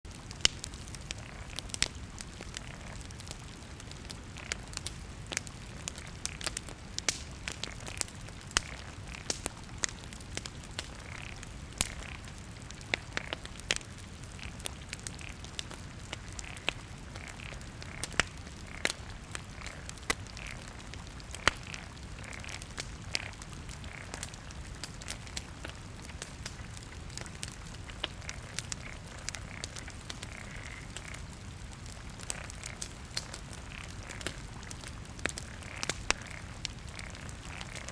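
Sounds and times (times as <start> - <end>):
bonfire crackling and popping: 0.1 - 37.9
low rumble of flames: 0.1 - 37.9.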